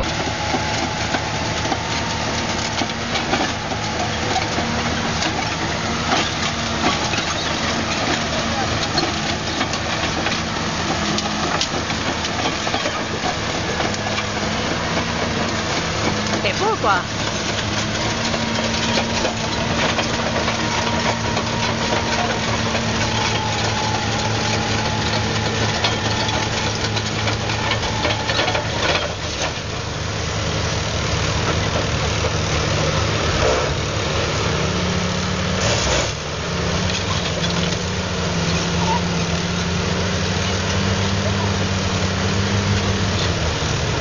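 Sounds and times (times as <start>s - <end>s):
steel tracks rattling on rock: 0.0s - 34.7s, 35.4s - 44.0s
bulldozer diesel engine running: 0.0s - 44.0s.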